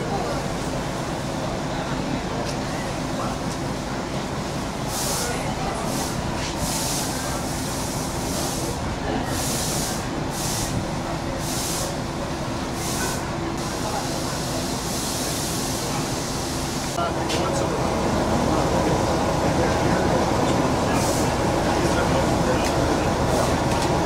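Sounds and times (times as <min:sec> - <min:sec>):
diesel engines humming: 0:00.0 - 0:24.0.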